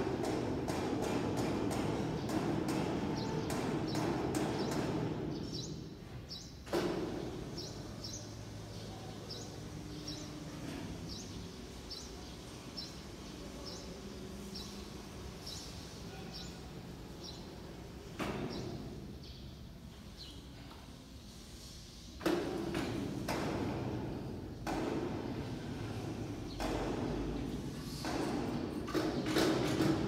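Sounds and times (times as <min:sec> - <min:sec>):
factory machinery hum: 0:00.0 - 0:30.0.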